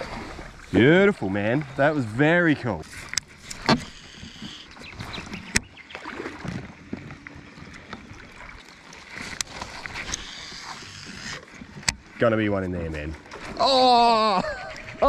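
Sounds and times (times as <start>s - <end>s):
water sloshing: 0.0s - 15.0s.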